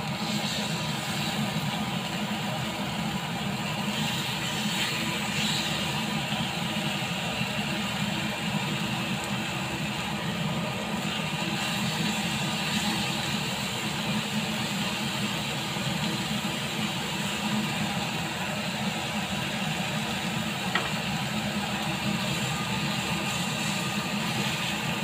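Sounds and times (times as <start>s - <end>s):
meat sizzling in a grill pan: 0.0s - 25.0s.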